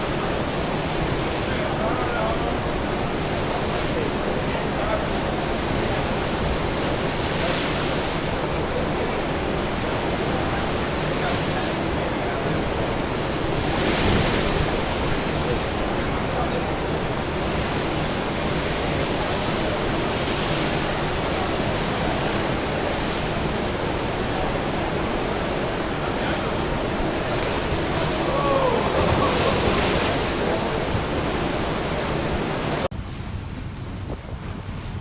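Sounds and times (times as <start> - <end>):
wind and sea rushing: 0.0 - 35.0.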